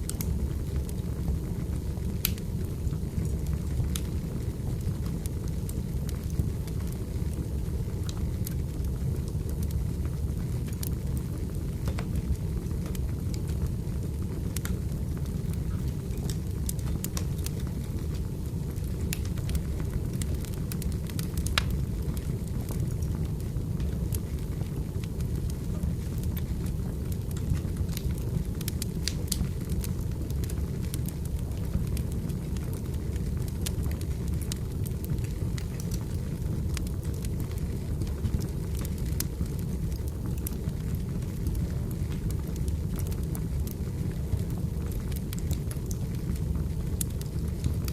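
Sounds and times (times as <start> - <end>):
fire crackling and popping: 0.0 - 47.9
firewood burning: 0.0 - 47.9
low rumble of flames: 0.0 - 47.9.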